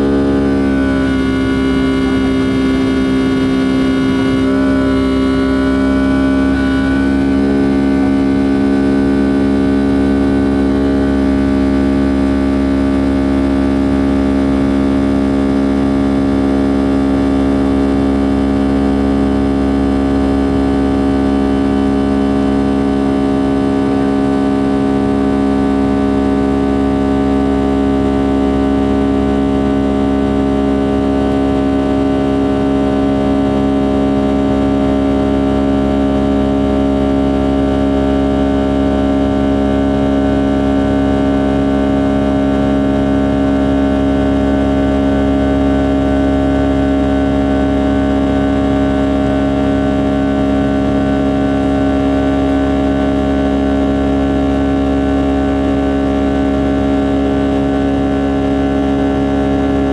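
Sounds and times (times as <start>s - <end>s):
humming tones: 0.0s - 59.9s
jet engine drone in cabin: 0.0s - 59.9s.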